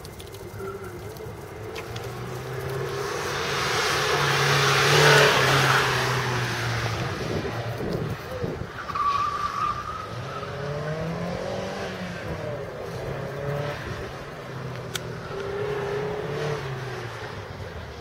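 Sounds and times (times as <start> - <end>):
car engine revving: 0.8 - 17.5.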